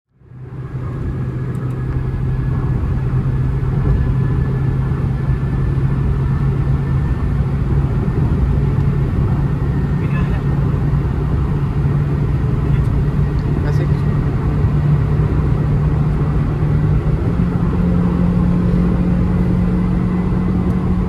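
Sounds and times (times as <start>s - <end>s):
car engine at highway speed: 0.1s - 21.0s
tyre and road rumble: 0.5s - 21.0s.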